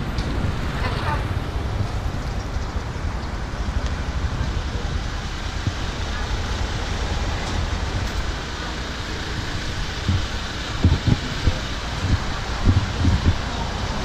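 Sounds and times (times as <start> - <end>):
motorcycle engine rumble: 0.0 - 14.0
wind buffeting microphone: 0.0 - 14.0.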